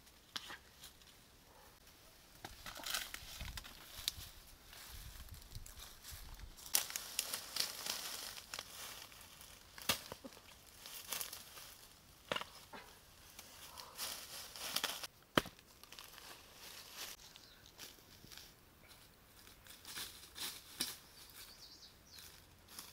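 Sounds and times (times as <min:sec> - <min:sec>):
dry leaves rustling and crackling: 0:02.3 - 0:12.2, 0:13.2 - 0:15.1, 0:15.7 - 0:22.9.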